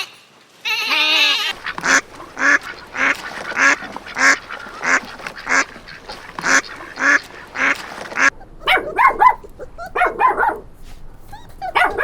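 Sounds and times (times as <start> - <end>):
animal giving quick yelping calls: 1.4 - 12.0.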